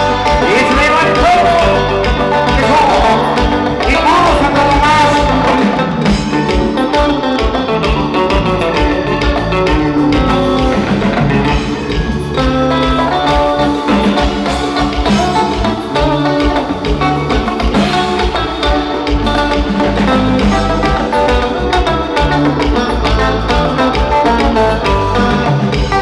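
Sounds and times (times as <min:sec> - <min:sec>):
live band playing instrumental: 0:00.0 - 0:26.0.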